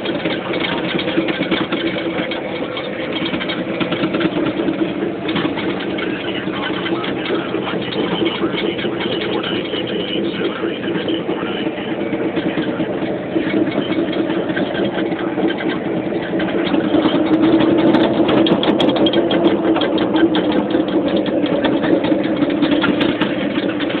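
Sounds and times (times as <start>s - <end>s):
bulldozer diesel engine running: 0.0s - 24.0s
dense rapid clatter: 0.0s - 24.0s.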